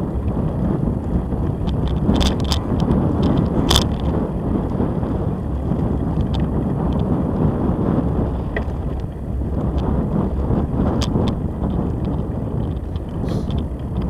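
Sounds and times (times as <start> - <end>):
bicycle tyres rumbling on concrete: 0.0 - 14.0
bike rattling clicks: 0.0 - 14.0.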